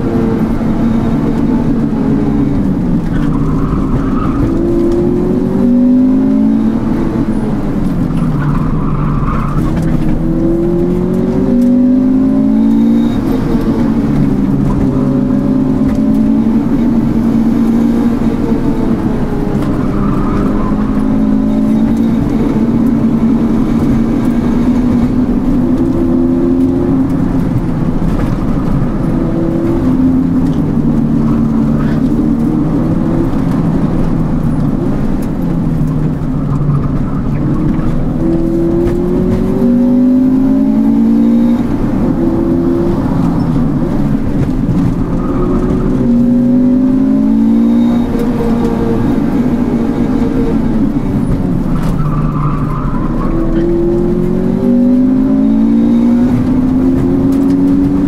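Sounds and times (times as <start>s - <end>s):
car engine revving: 0.0s - 58.0s
tyre and road noise: 0.0s - 58.0s.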